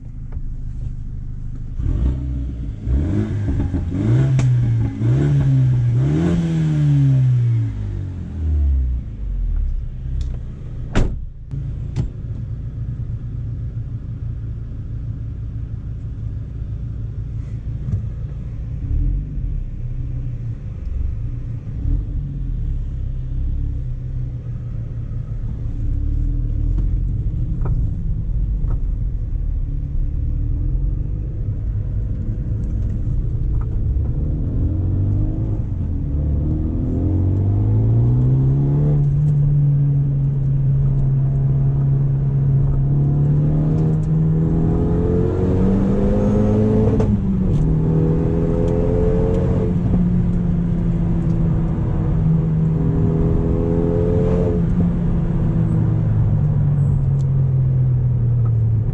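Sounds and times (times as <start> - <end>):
car engine accelerating: 0.0 - 58.9.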